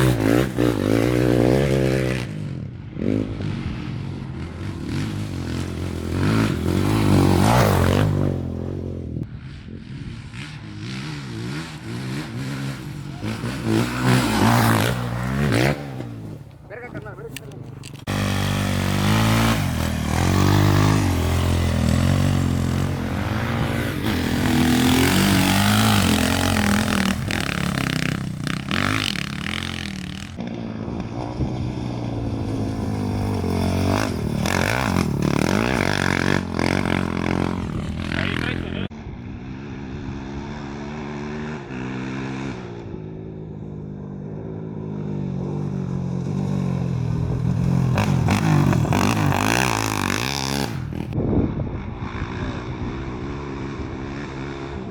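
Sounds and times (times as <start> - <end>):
race engines revving and passing: 0.0 - 44.4, 45.0 - 51.2.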